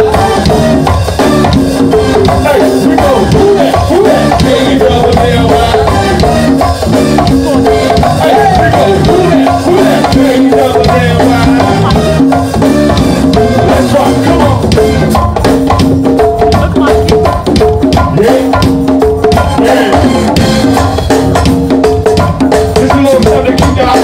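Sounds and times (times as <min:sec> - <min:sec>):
drum kit and congas beat: 0:00.0 - 0:24.0
held bass and melody notes: 0:00.0 - 0:24.0.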